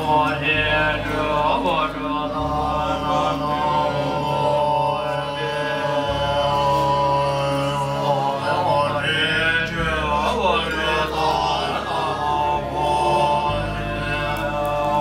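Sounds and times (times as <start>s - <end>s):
low drone: 0.0s - 15.0s
monks chanting: 0.0s - 15.0s.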